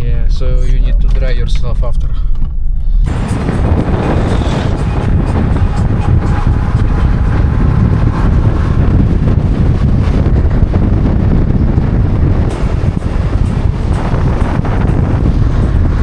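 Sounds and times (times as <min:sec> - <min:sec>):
wind buffeting microphone: 0:00.0 - 0:16.0
moving vehicle running: 0:02.8 - 0:16.0.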